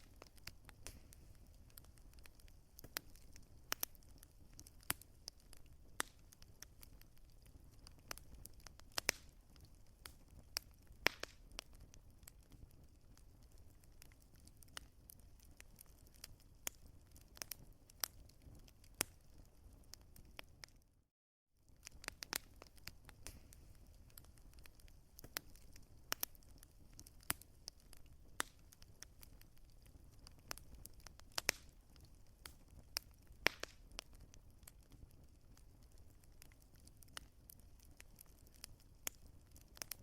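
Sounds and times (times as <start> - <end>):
wood fire crackling: 0.0 - 21.0, 21.6 - 40.0.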